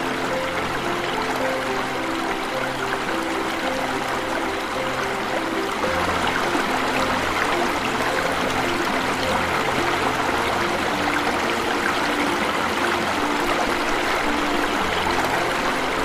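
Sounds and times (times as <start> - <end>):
slow melody of soft notes: 0.0 - 16.0
waterfall rushing and splashing: 0.0 - 16.0.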